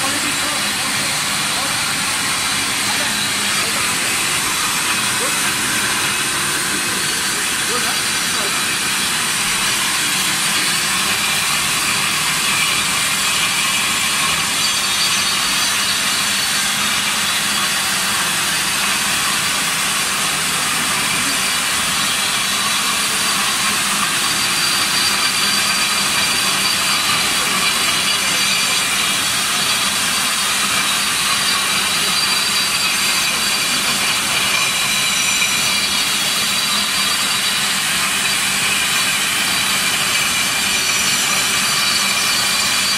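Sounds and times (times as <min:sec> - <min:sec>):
floor grinder grinding concrete: 0:00.0 - 0:42.9.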